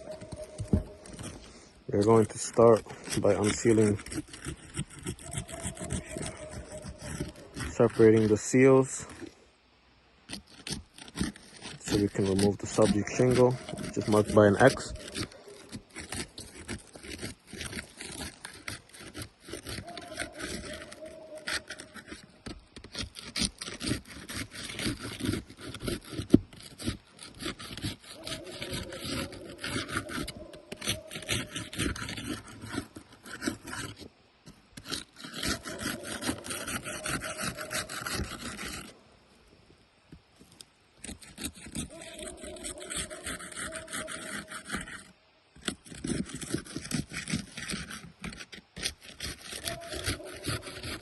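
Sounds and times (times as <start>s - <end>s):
tool scraping under shingles: 0.0s - 9.4s, 10.2s - 51.0s.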